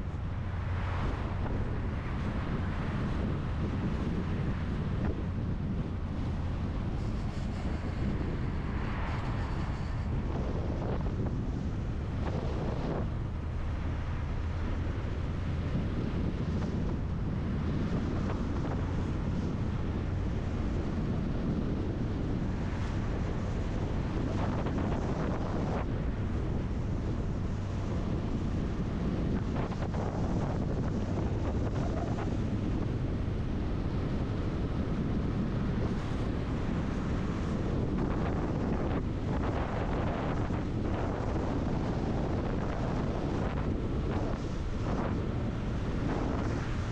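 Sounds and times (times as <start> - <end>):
engine and tyre drone: 0.0 - 46.9
wind rushing over microphone: 0.0 - 46.9.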